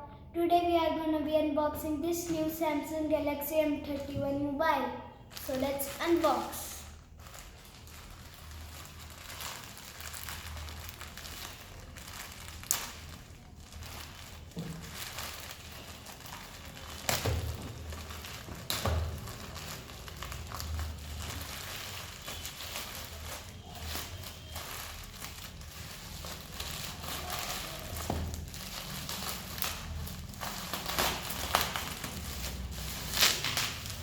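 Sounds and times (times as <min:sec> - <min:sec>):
packaging crinkling and rustling: 0:05.3 - 0:34.0.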